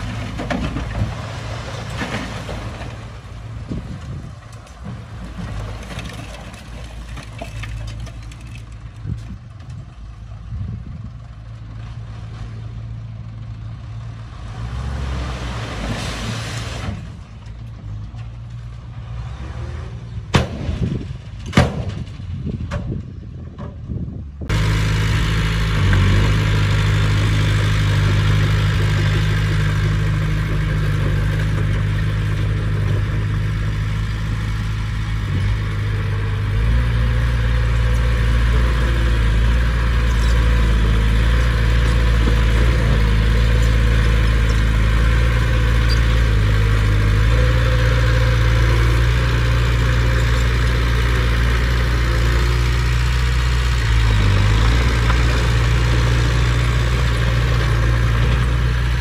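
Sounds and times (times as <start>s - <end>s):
bulldozer diesel engine running: 0.0s - 16.0s, 22.1s - 59.0s.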